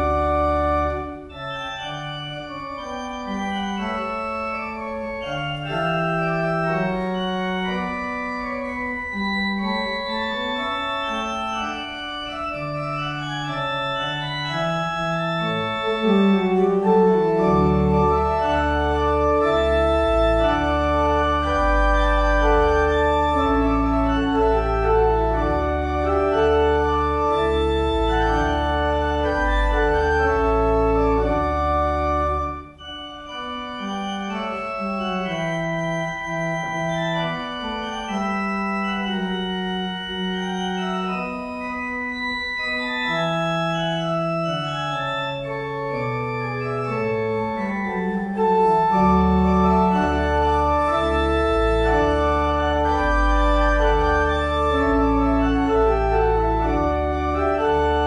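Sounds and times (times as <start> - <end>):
church organ playing chords: 0.0 - 58.0
deep organ pedal bass notes: 0.0 - 58.0.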